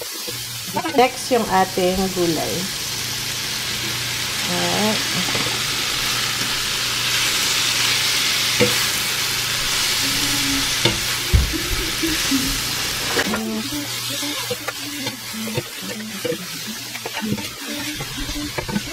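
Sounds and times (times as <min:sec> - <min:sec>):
peppers sizzling in pan: 0:00.0 - 0:18.9.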